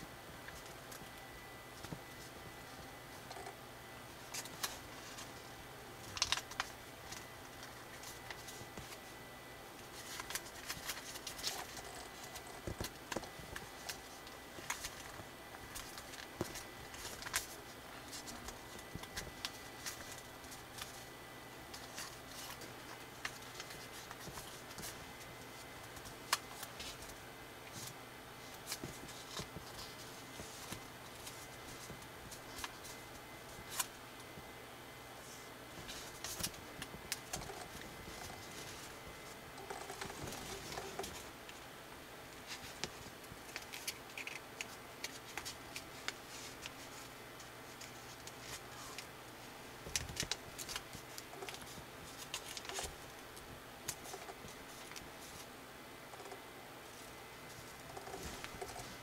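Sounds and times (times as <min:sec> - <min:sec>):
paper rustling and crinkling: 0:04.2 - 0:09.2, 0:09.8 - 0:21.1, 0:21.7 - 0:34.0, 0:35.2 - 0:41.6, 0:42.4 - 0:49.1, 0:49.8 - 0:55.5, 0:56.2 - 0:59.0.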